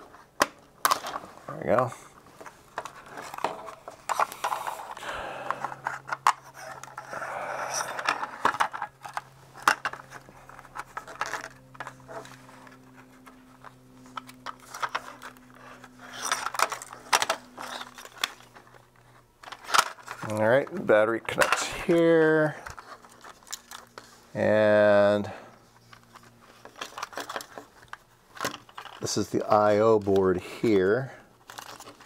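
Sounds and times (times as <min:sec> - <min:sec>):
plastic parts clicking and scraping: 0:00.0 - 0:24.2, 0:25.5 - 0:32.0
steady low hum: 0:00.0 - 0:32.0.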